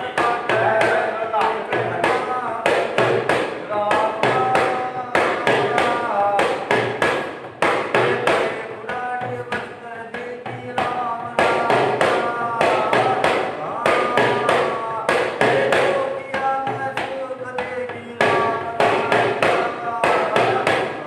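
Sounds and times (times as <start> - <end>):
hand drum struck in rhythm: 0.0 - 21.0
men chanting: 0.0 - 21.0.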